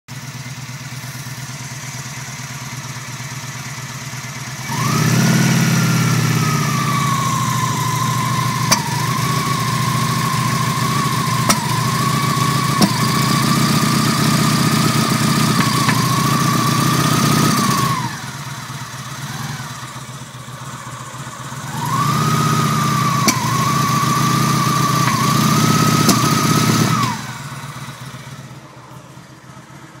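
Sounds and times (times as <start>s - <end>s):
engine misfiring and revving: 0.1s - 30.0s
engine whine: 0.3s - 30.0s.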